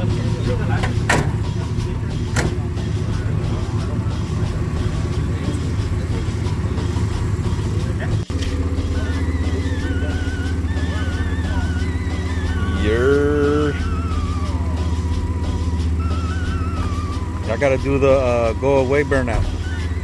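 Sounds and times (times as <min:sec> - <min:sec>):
music with high melody and drone: 0:00.0 - 0:20.0
truck engine idling: 0:00.0 - 0:20.0.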